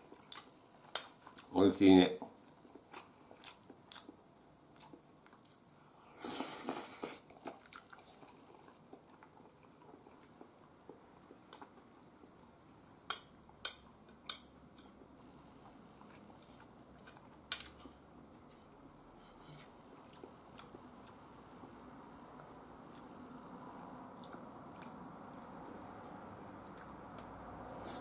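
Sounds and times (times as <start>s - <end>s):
quiet chewing: 0.0s - 1.5s, 2.2s - 12.8s, 13.5s - 28.0s.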